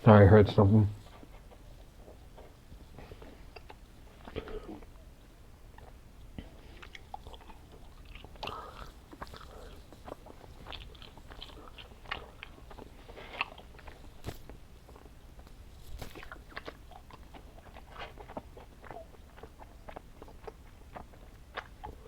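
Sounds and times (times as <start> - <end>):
person chewing candy: 1.2 - 5.1, 5.7 - 22.0.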